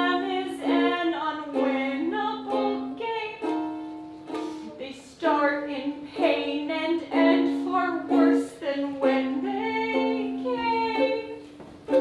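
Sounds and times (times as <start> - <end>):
person singing: 0.0 - 3.7, 4.3 - 12.0.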